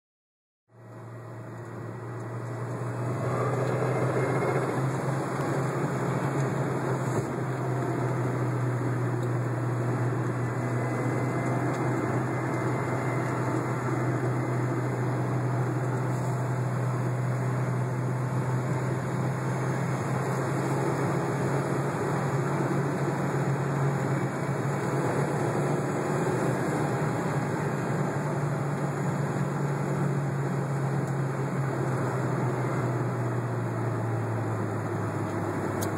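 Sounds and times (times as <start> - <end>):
car engine and road noise: 0.7 - 35.9.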